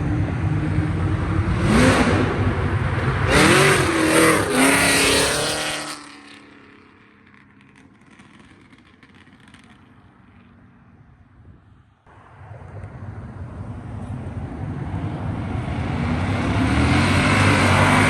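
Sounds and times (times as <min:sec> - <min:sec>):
car engine revving: 0:00.0 - 0:09.9, 0:12.1 - 0:18.0.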